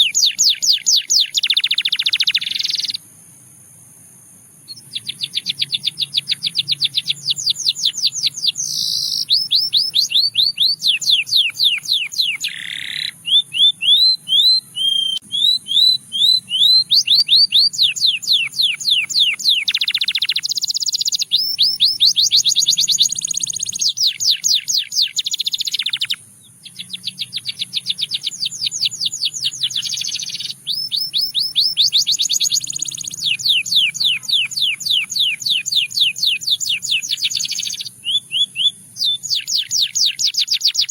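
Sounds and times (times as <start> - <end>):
canary singing trills: 0.0 - 3.0, 4.6 - 40.9.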